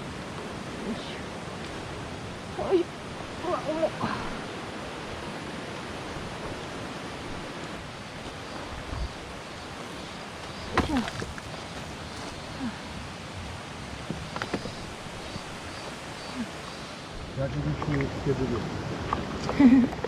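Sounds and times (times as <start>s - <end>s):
mountain stream rushing: 0.0s - 20.0s.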